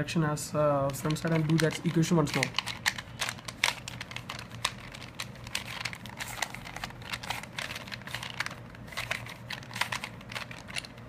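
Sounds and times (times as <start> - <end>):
puzzle cube plastic clicks: 0.8 - 11.0.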